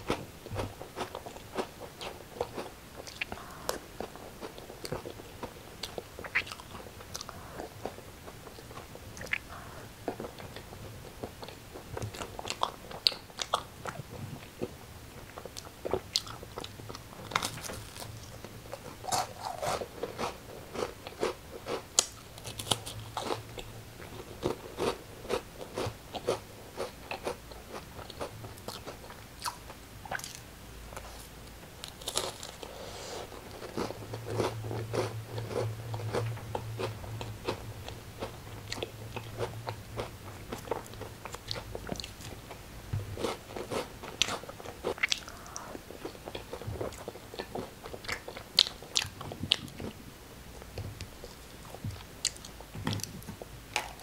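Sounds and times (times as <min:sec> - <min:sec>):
chewing crunchy food: 0:00.0 - 0:50.0, 0:50.7 - 0:54.0.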